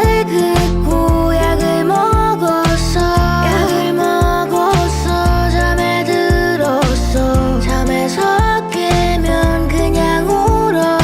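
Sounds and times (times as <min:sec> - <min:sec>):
pop music melody: 0:00.0 - 0:11.0
pulsing bass line: 0:00.0 - 0:11.0.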